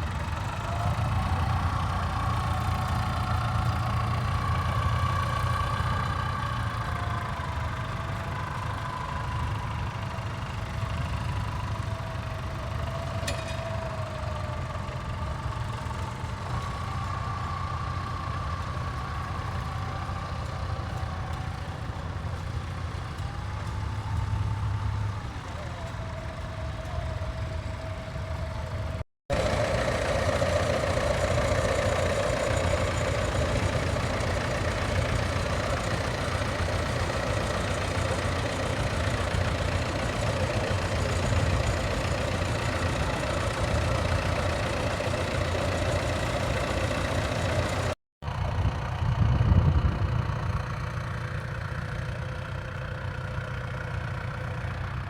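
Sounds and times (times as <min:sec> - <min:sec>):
steady engine sound: 0:00.0 - 0:55.0
tractor engines running: 0:00.0 - 0:55.0.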